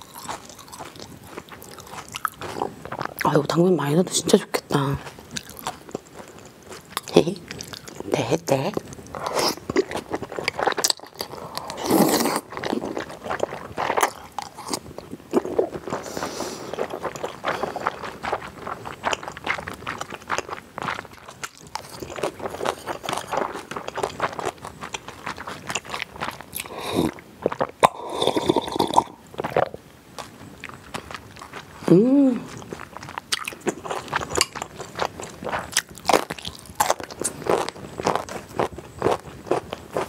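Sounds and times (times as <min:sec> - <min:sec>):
crunchy chewing: 0:00.0 - 0:03.7, 0:04.6 - 0:40.0.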